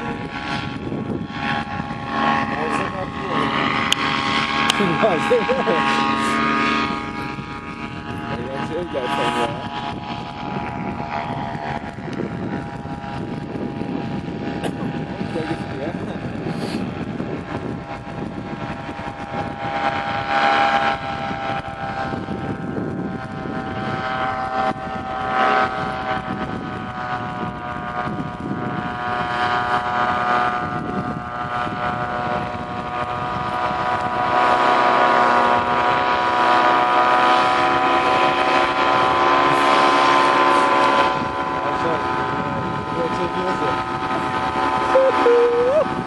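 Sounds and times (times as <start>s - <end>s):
paramotor engine buzzing overhead: 0.0s - 46.0s.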